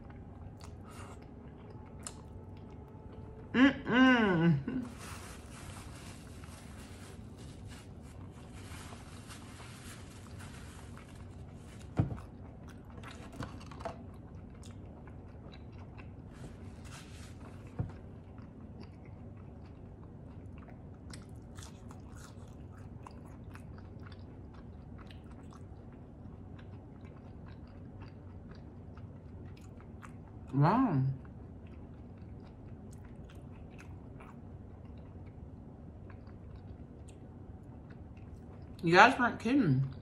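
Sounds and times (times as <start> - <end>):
person chewing: 0.0 - 3.5, 4.8 - 30.5, 31.2 - 38.8
low room hum: 0.0 - 40.0.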